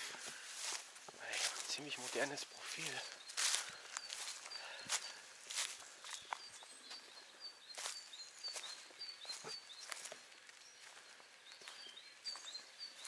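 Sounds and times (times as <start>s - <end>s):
footsteps on ground: 0.0s - 13.0s
small bird chirping: 1.2s - 13.0s.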